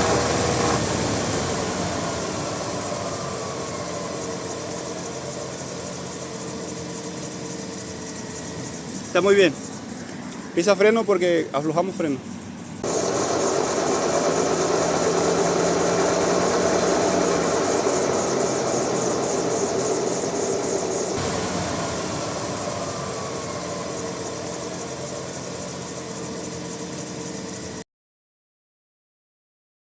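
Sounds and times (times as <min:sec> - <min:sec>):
wheel and drivetrain droning hum: 0:00.0 - 0:27.8.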